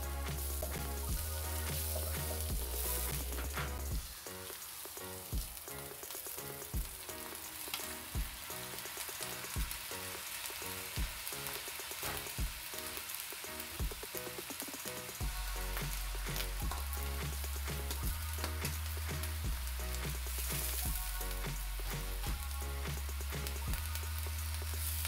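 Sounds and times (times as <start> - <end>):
background music with steady beat: 0.0 - 25.0
food sizzling in a wok: 0.0 - 25.0.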